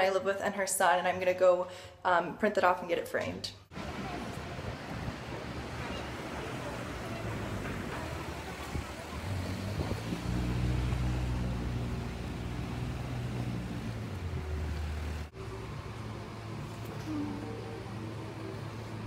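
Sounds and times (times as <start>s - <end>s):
street noise: 3.7s - 19.0s.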